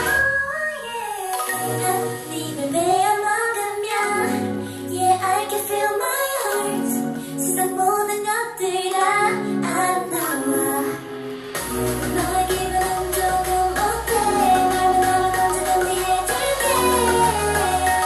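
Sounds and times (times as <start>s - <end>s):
female voices singing pop song: 0.0s - 18.0s.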